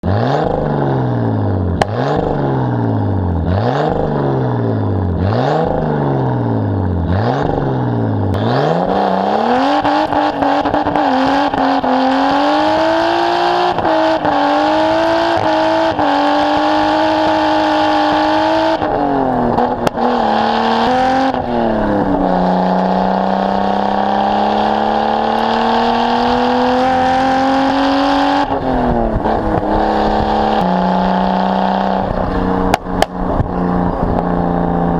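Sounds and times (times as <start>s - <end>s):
car engine revving and accelerating: 0.0s - 34.9s.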